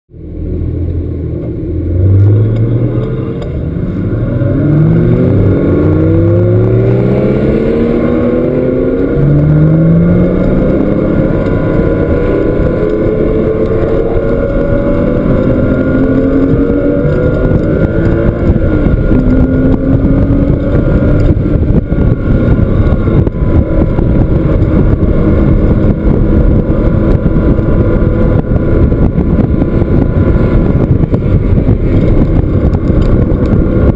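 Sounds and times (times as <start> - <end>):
car engine at full throttle: 0.1 - 33.9
road and wind noise: 0.1 - 33.9.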